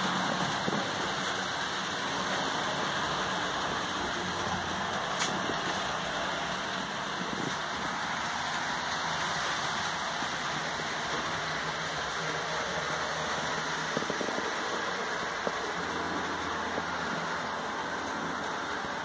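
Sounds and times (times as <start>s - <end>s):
model train whirring and rolling: 0.0s - 19.0s.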